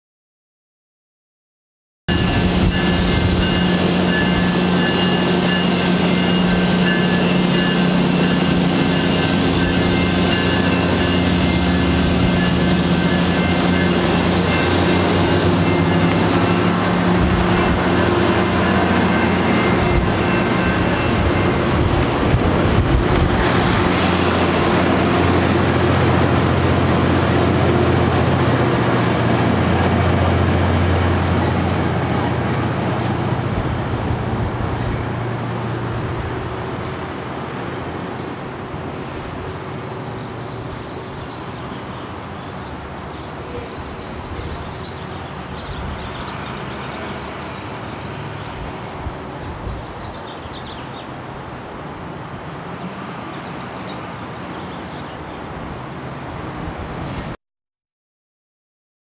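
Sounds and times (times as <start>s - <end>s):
train wheels rumbling on rail: 2.1s - 57.4s.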